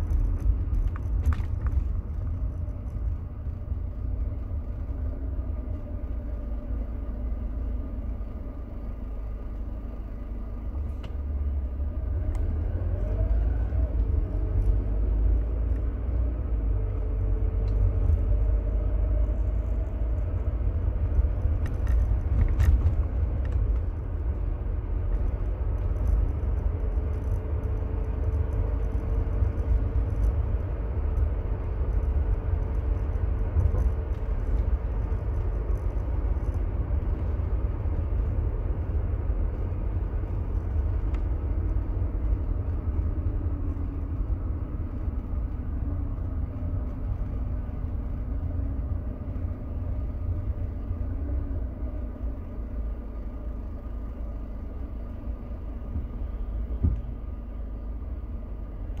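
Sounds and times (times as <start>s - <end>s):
car engine driving: 0.0s - 59.0s
low road rumble: 0.0s - 59.0s.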